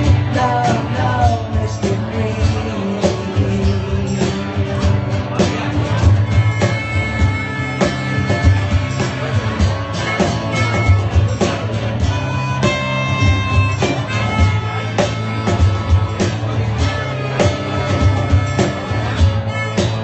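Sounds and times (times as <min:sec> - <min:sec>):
bass line: 0:00.0 - 0:20.0
electric guitar: 0:00.0 - 0:20.0
steady drum beat: 0:00.0 - 0:20.0.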